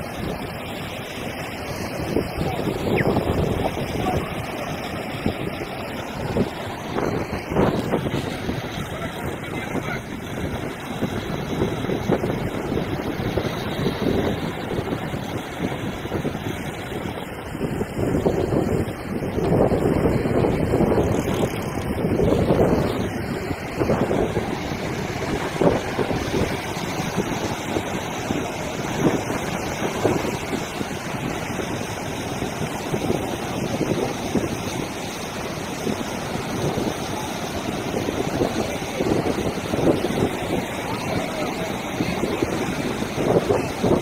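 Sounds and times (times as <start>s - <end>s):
waves breaking on beach: 0.0s - 44.0s
wind buffeting microphone: 0.0s - 44.0s.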